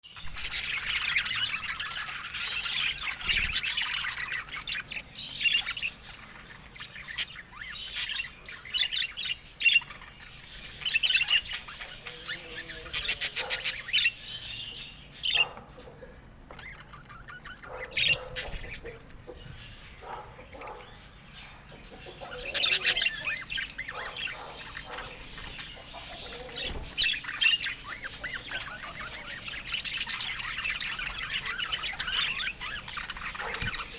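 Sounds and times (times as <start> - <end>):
pet birds chirping and squawking: 0.0 - 33.9.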